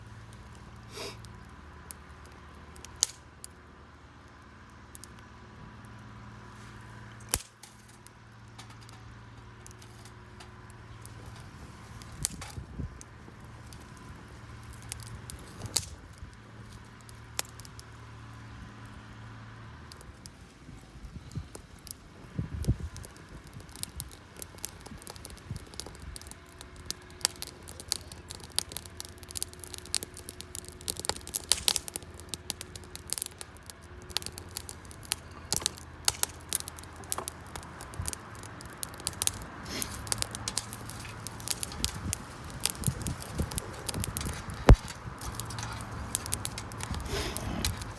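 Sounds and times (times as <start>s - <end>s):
campfire crackling: 0.0s - 47.9s
burning wood snapping and popping: 0.1s - 47.9s.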